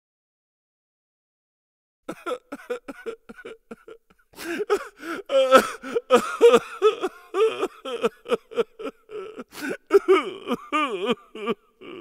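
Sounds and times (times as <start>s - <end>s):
person crying theatrically: 2.1s - 12.0s.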